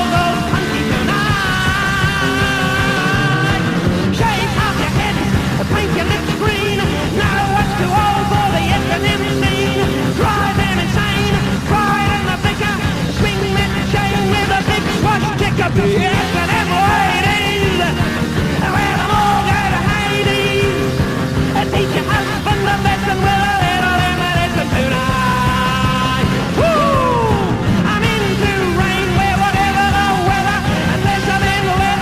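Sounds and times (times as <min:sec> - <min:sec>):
punk rock band music: 0:00.0 - 0:32.0.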